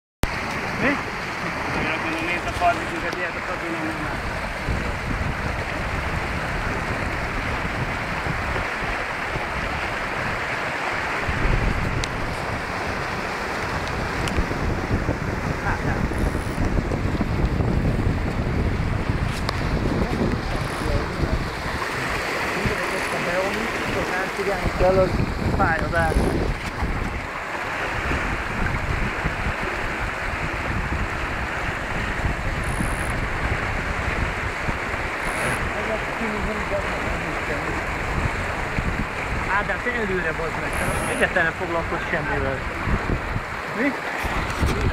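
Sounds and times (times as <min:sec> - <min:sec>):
water rushing along hull: 0:00.2 - 0:44.9
wind buffeting microphone: 0:00.3 - 0:44.9.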